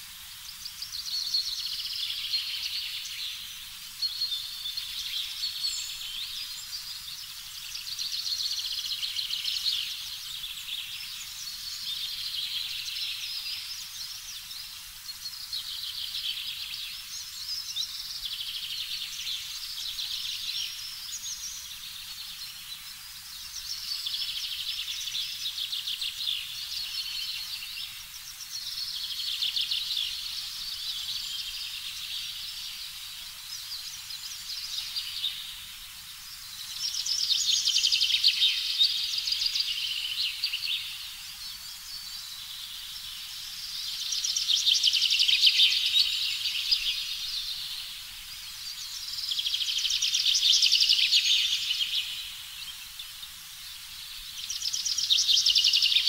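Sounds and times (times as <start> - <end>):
faint low background noise: 0.0 - 56.0.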